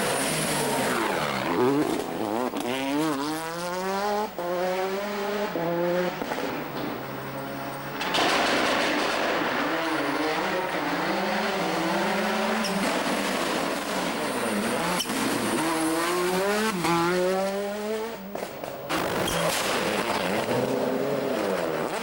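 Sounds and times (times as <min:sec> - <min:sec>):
rally car engine accelerating hard: 0:00.0 - 0:07.7, 0:09.4 - 0:22.0.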